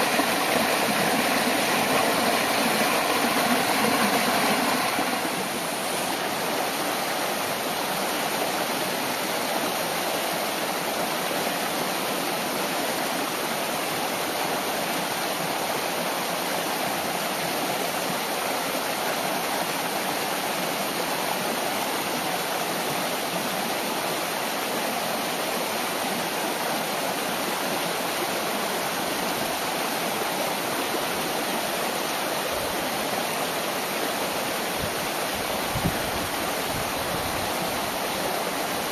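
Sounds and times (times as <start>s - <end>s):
mountain stream rushing over rock: 0.0s - 38.9s.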